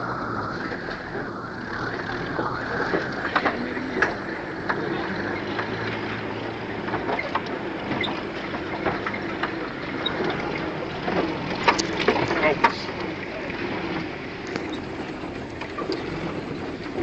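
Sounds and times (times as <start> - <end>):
engine rumbling at low speed: 0.0 - 17.0.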